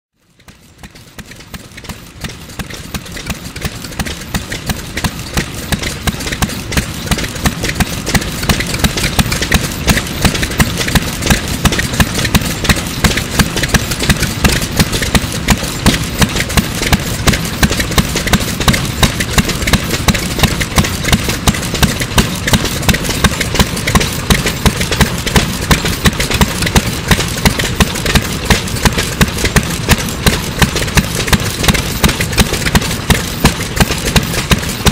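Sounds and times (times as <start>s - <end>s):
stationary engine firing beats: 0.2s - 34.9s.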